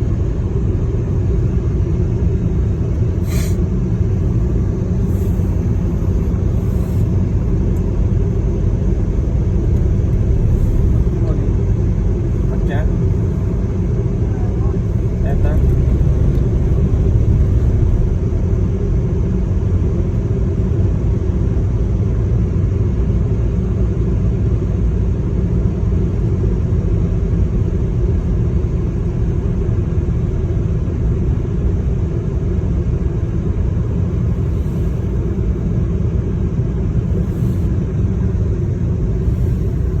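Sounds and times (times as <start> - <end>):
moving car rumble: 0.0 - 40.0.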